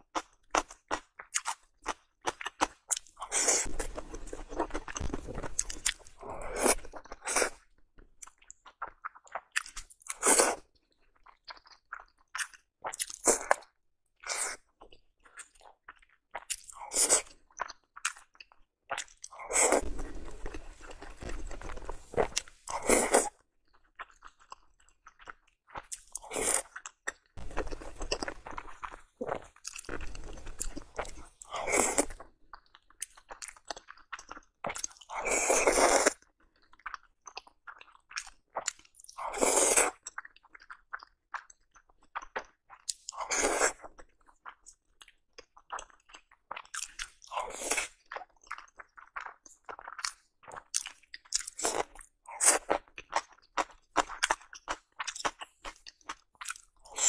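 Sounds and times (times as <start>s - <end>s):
wet chewing: 0.1s - 57.0s.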